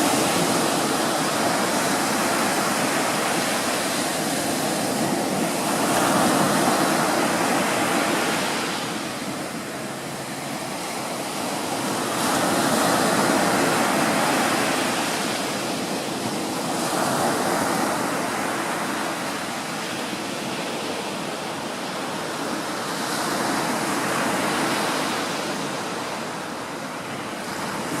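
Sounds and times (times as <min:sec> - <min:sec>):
small waves breaking on beach: 0:00.0 - 0:28.0.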